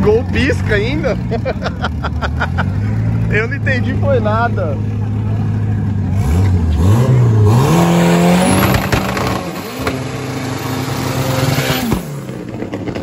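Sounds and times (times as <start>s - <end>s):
drag car engine revving: 0.0s - 13.0s.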